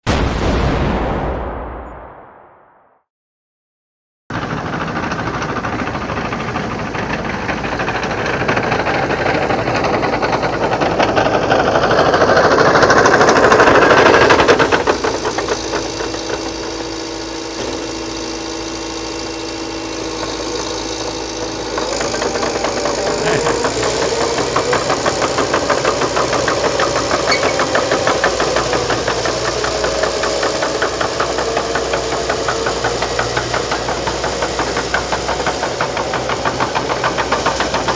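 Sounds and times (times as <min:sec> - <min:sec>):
crawler dozer diesel engine: 0:04.3 - 0:37.9
fast even rattle: 0:04.3 - 0:37.9.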